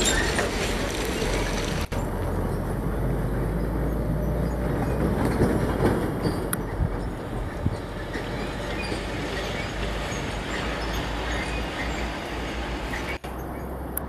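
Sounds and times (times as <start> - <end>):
truck diesel engine drone: 0.0 - 14.0
tyre and road noise: 0.0 - 14.0.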